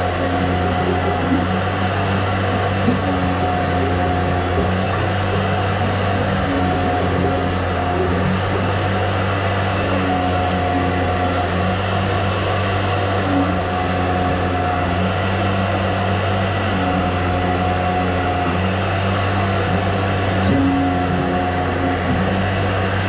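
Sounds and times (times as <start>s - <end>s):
motor humming and whirring: 0.0s - 23.0s.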